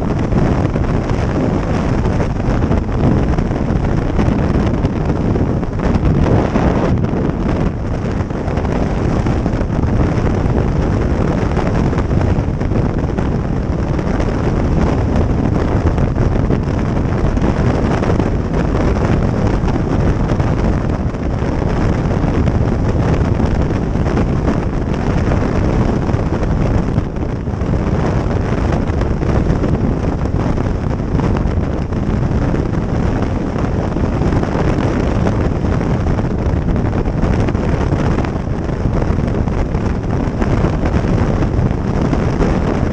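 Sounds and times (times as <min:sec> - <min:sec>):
road noise: 0:00.0 - 0:42.9
wind rushing over microphone: 0:00.0 - 0:42.9.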